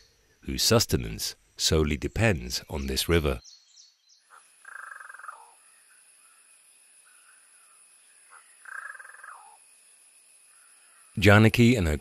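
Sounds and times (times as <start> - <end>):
faint steady high hiss: 0.0 - 12.0.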